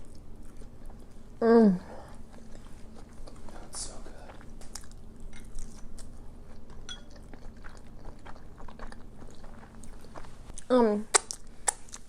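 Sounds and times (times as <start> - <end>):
person chewing fish: 0.0 - 1.4, 2.0 - 12.0.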